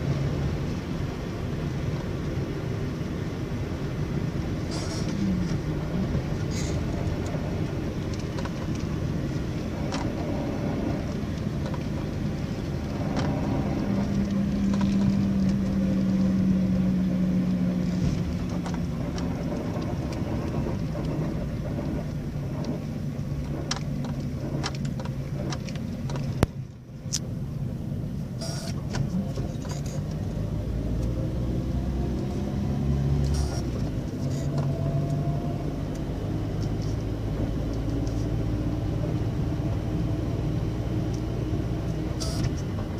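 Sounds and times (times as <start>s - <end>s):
car engine: 0.0s - 42.9s
road rumble: 0.0s - 42.9s.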